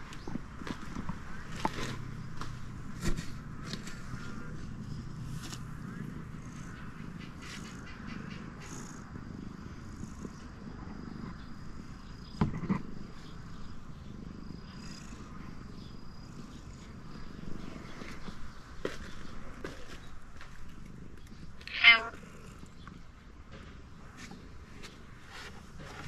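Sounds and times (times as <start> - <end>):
cat purring: 0.1 - 26.0.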